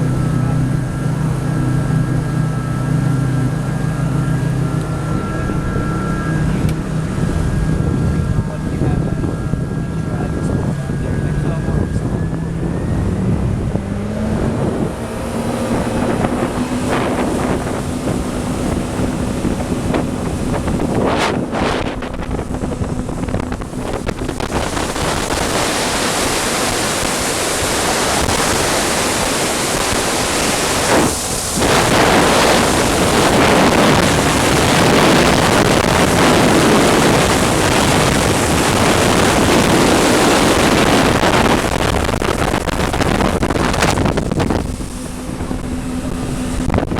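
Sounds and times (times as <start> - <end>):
boat engine hum: 0.0 - 46.9
wind buffeting microphone: 0.0 - 46.9.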